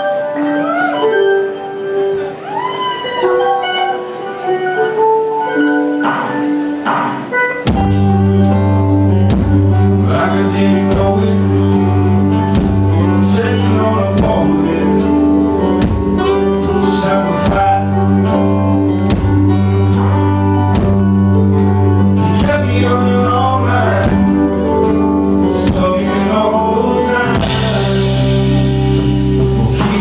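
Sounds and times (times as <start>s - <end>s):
live band music: 0.0s - 30.0s.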